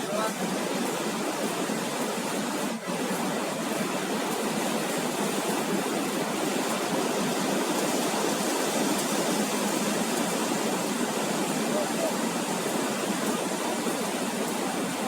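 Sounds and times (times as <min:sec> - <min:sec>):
surf waves washing on beach: 0:00.0 - 0:15.0.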